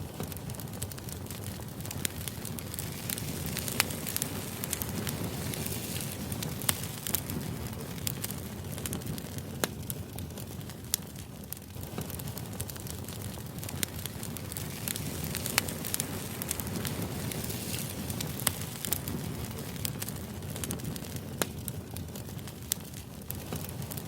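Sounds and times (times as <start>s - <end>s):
sharp crackles and clicks: 0.0s - 24.0s.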